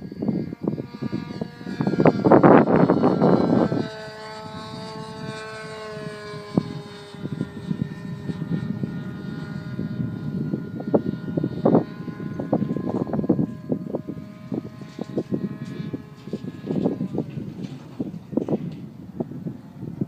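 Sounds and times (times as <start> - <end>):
model plane engine whining: 0.0 - 20.0
wind buffeting microphone: 0.0 - 20.0.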